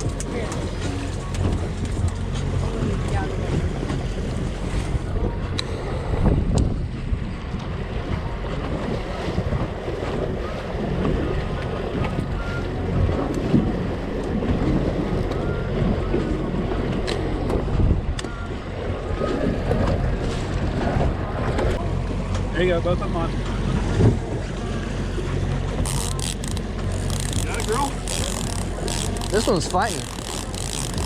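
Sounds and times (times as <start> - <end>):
boat engine running: 0.0 - 31.0
water washing past hull: 0.0 - 31.0
wind buffeting microphone: 0.0 - 31.0.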